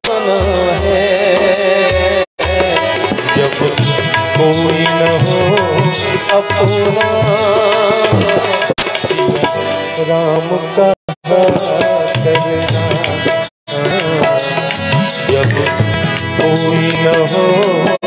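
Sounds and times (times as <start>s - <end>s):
tabla playing a lively rhythm: 0.0s - 10.6s, 11.2s - 18.0s
harmonium and keyboard melody: 0.0s - 18.0s.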